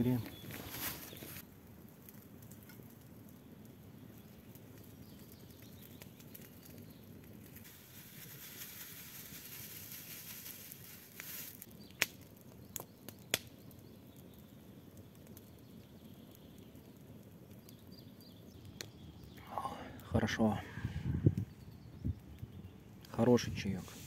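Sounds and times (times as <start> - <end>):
campfire hissing: 0.0 - 24.0
fire crackling pops: 0.0 - 24.0.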